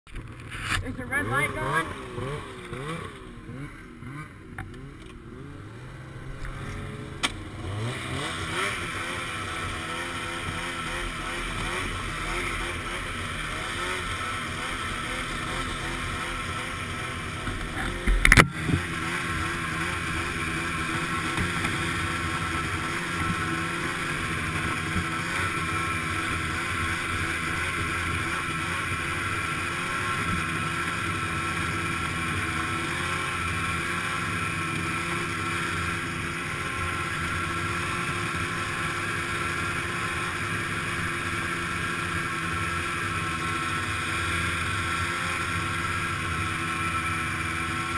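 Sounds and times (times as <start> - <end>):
snowmobile engine running: 0.1 - 47.9.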